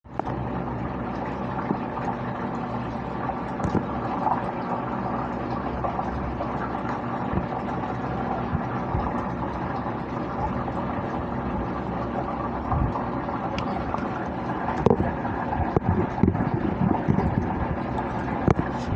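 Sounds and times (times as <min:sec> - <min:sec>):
mechanical hum: 0:00.1 - 0:18.9.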